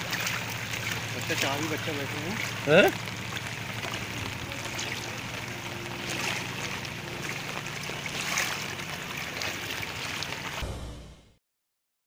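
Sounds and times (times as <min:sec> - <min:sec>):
rushing water noise: 0:00.0 - 0:10.8.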